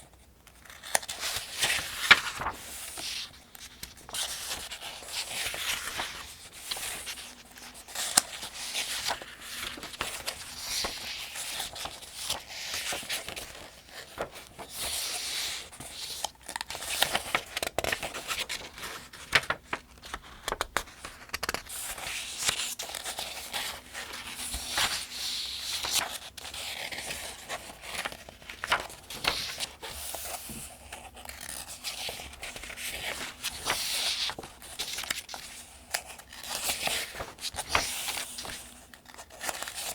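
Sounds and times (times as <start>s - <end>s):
pages turning: 0.5s - 39.9s.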